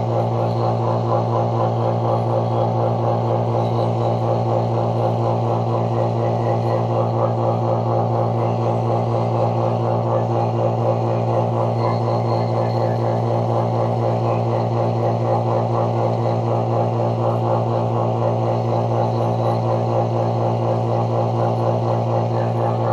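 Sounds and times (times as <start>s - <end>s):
electric pump humming: 0.0s - 22.9s.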